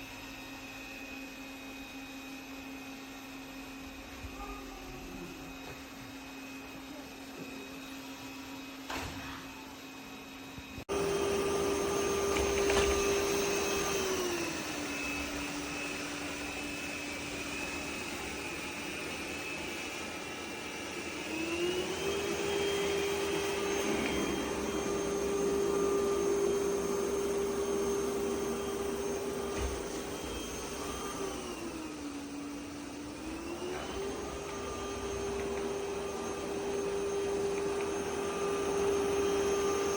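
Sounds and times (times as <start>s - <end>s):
robot vacuum motor whine: 0.0s - 39.9s.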